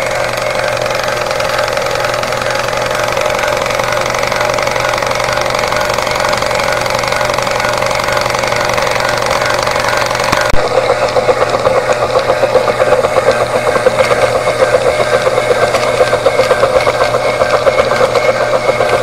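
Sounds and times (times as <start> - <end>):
small steam pump engine: 0.0 - 19.0
steam engine clattering beat: 0.0 - 19.0.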